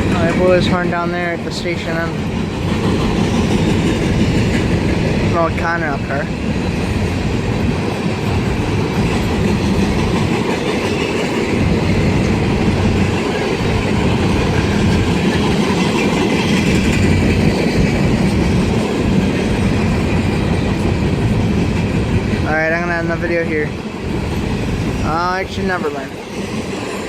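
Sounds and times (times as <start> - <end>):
freight train wheels rattling on rails: 0.0 - 27.0.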